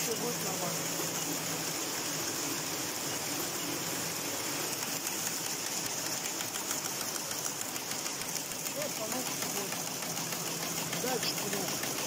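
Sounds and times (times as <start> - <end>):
knitting machine whirring: 0.0 - 12.0
rapid ticking of knitting carriage: 0.0 - 12.0.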